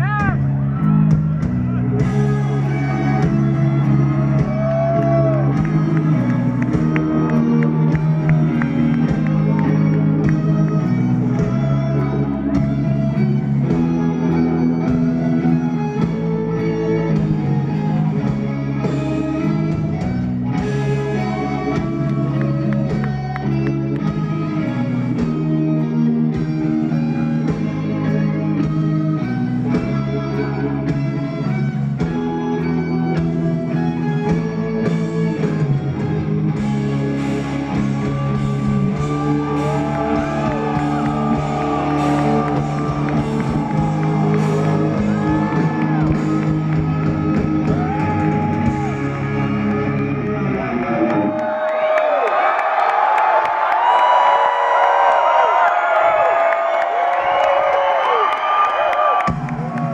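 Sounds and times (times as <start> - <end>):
live rock band playing: 0.0 - 51.4
electric guitar: 0.0 - 59.9.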